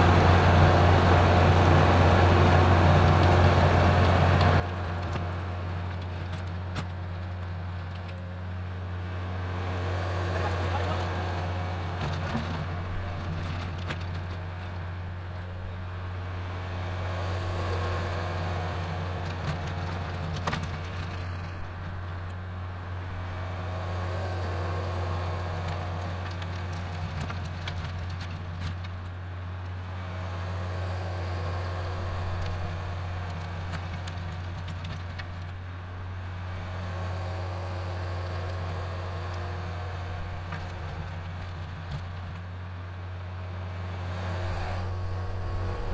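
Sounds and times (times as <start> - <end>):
rototiller in soil: 0.0 - 45.9
tractor diesel engine: 0.0 - 45.9.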